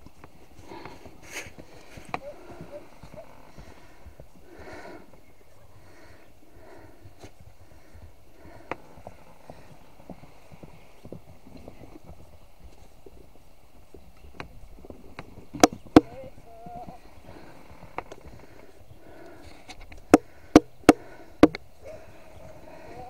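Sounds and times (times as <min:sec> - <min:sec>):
horse hooves clopping: 0:00.0 - 0:23.0.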